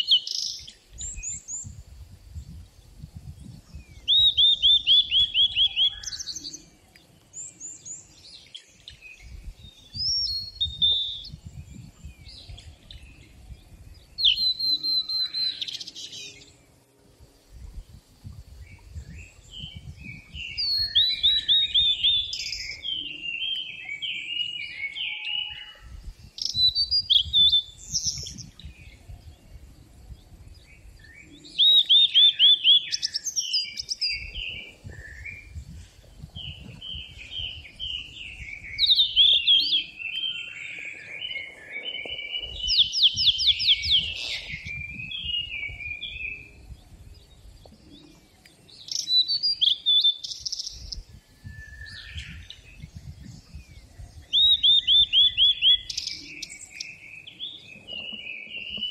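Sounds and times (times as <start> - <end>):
birds chirping and warbling: 0.0 - 58.9.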